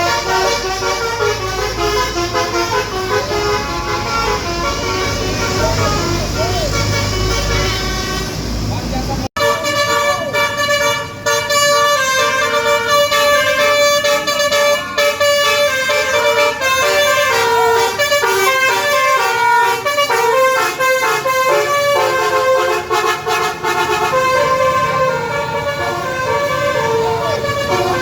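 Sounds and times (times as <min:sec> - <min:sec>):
bus air horns playing tune: 0:00.0 - 0:08.7, 0:09.4 - 0:28.0.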